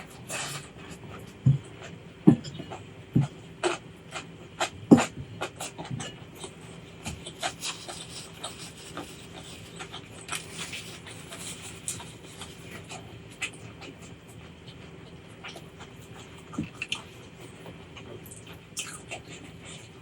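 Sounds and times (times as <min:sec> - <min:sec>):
chewing with sharp crunches: 0:00.0 - 0:20.0
crackly chewing and smacking: 0:00.0 - 0:20.0.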